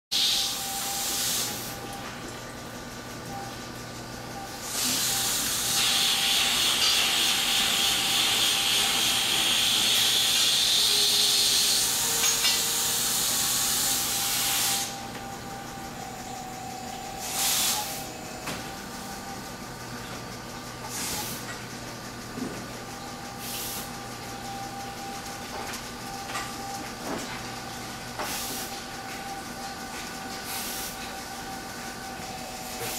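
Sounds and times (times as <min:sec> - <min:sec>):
milking machine hissing: 0:00.2 - 0:03.6, 0:04.2 - 0:32.9
mechanical hum: 0:00.2 - 0:32.9.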